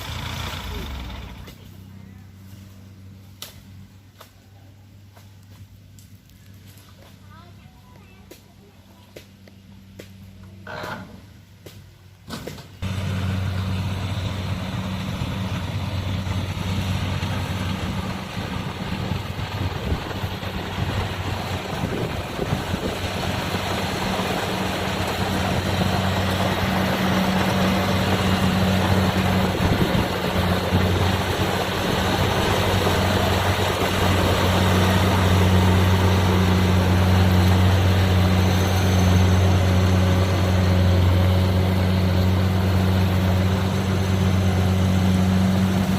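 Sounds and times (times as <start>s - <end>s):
diesel engine humming: 0.0s - 8.0s, 8.6s - 45.9s.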